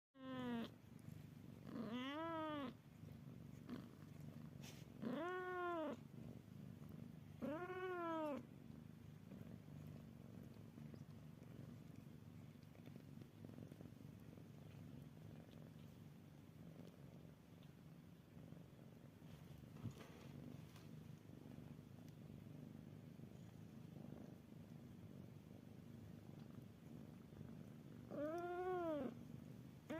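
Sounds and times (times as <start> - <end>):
cat purring: 0.2 - 29.9.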